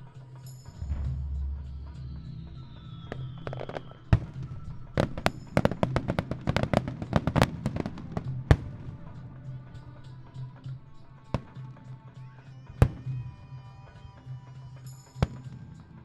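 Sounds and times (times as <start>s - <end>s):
firework shells bursting: 0.4s - 16.0s.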